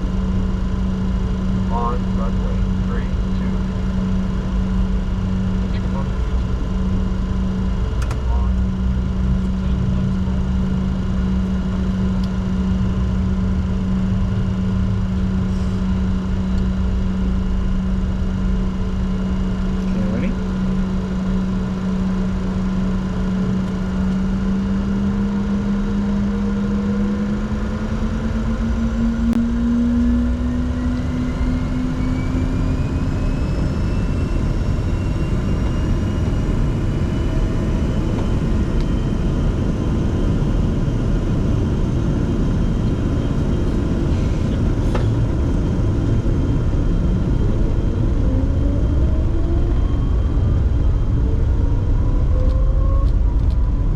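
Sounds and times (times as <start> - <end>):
jet engines rumbling and whining: 0.0 - 53.9.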